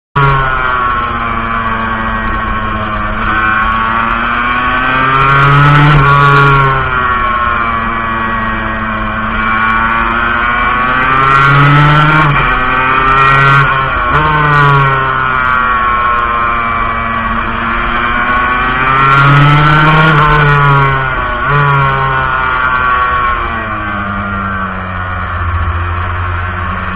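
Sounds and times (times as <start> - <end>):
two-stroke motorcycle engine: 0.2 - 26.9.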